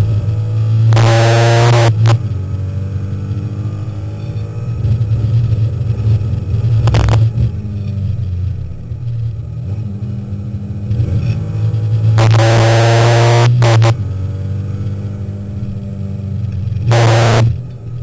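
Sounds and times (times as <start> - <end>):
race car engine from cockpit: 0.0 - 18.0.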